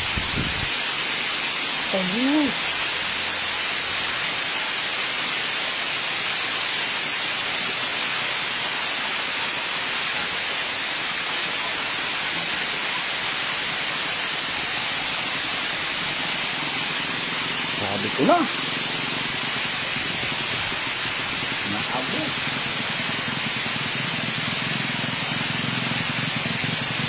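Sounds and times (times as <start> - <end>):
heavy rain and ashfall hiss: 0.0 - 27.0.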